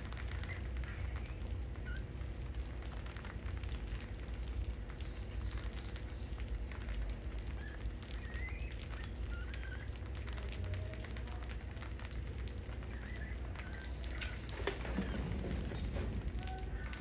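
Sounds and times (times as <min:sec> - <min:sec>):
rats squeaking: 0:00.0 - 0:04.0, 0:04.9 - 0:17.0
rats scrabbling on tiles: 0:00.0 - 0:17.0.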